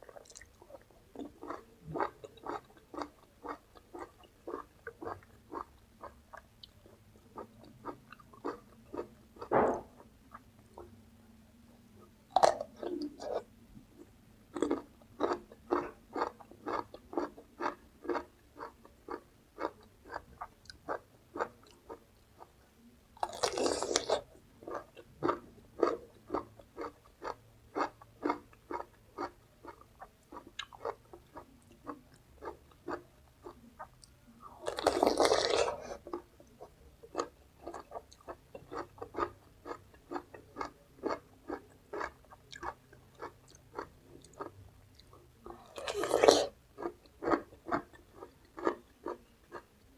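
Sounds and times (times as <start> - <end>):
chewing crunchy vegetables: 0.0 - 11.0, 12.0 - 49.9.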